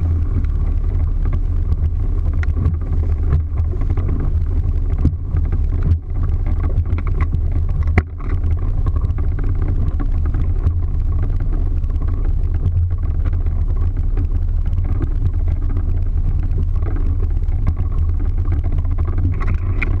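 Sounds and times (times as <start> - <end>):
motorboat engine rumble: 0.0 - 20.0
wind on microphone: 0.0 - 20.0.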